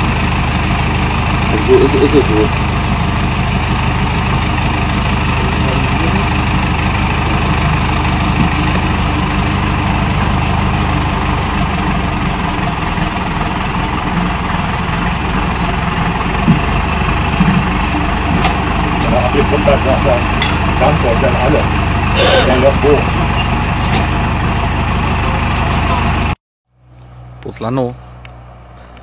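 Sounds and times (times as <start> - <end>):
truck engine and pump running: 0.0 - 29.0.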